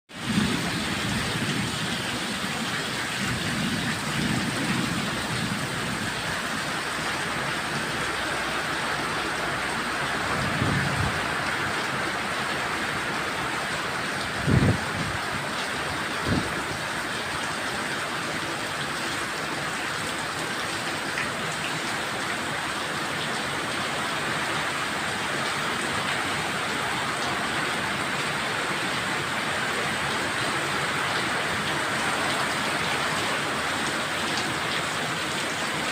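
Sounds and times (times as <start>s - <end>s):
heavy rain pouring: 0.1s - 35.9s.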